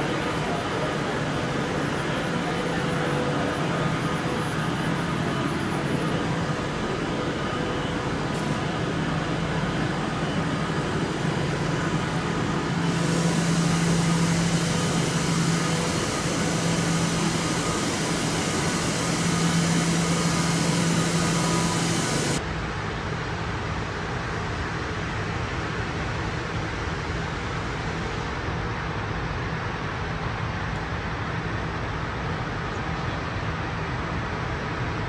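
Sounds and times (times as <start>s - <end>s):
train equipment hum and hiss: 0.0s - 35.0s.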